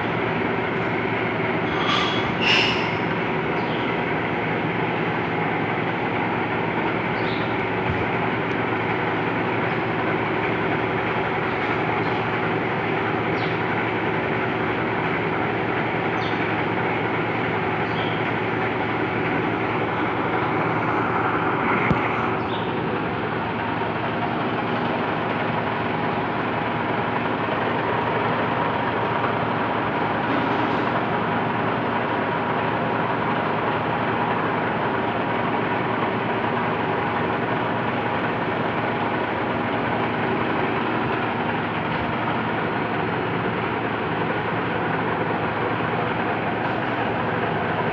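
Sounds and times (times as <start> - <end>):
metal lathe running: 0.0 - 47.9.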